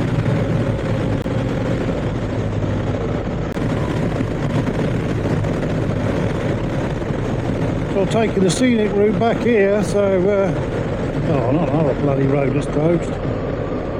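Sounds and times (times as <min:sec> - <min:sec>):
motorcycle engine running: 0:00.0 - 0:13.9
wind rushing on microphone: 0:00.0 - 0:13.9.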